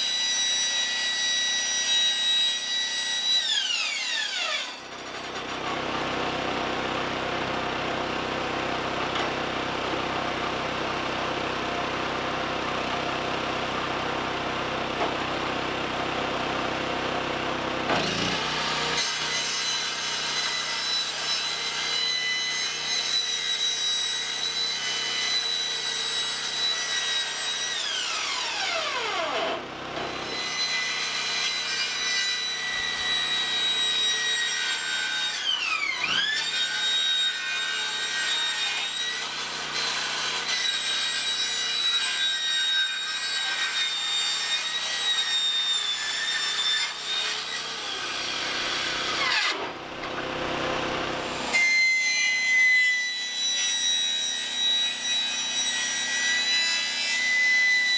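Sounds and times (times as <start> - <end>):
circular saw cutting metal: 0.0 - 11.1, 17.8 - 57.9.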